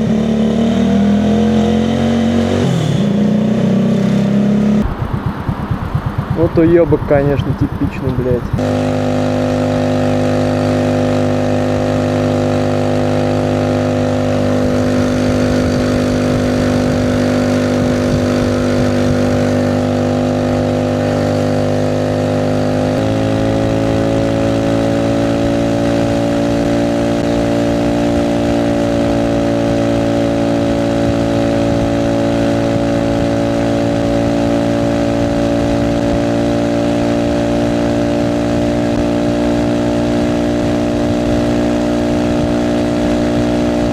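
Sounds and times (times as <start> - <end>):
moped engine running: 0.0 - 43.9.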